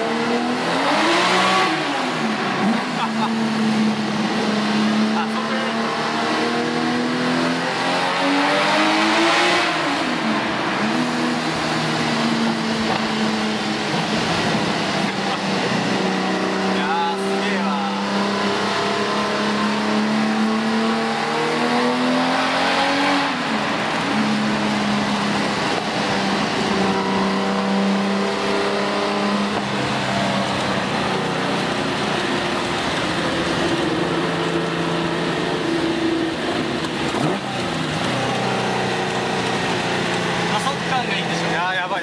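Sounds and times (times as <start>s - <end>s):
car engine accelerating hard: 0.0s - 42.0s.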